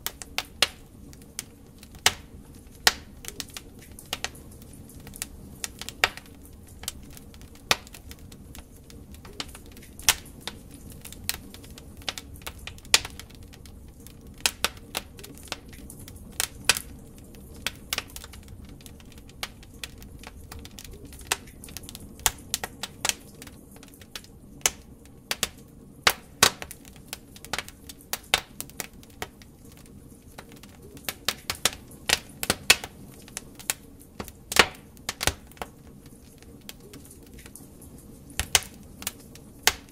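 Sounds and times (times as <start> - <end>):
flames rushing: 0.0 - 39.9
logs crackling and popping: 0.0 - 39.9.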